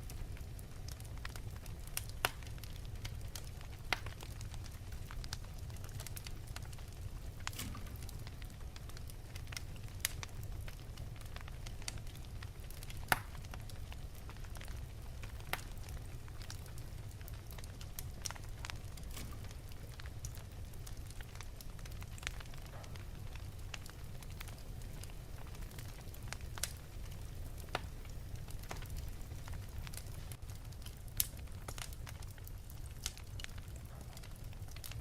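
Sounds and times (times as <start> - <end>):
fire crackling and popping: 0.0 - 35.0
fire flames rumbling: 0.0 - 35.0.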